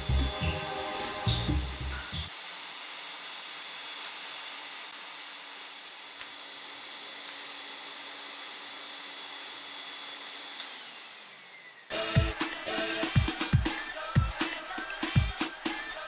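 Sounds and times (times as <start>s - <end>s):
industrial vacuum running: 0.0s - 14.1s.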